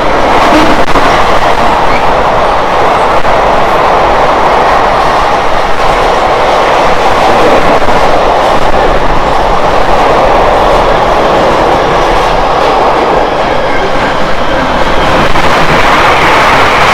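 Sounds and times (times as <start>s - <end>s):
freight train wheels on rails: 0.0s - 16.9s.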